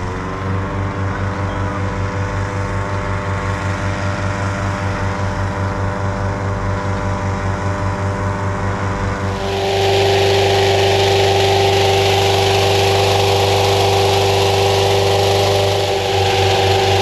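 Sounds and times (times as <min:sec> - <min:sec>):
inflation fan engine throbbing: 0:00.0 - 0:17.0.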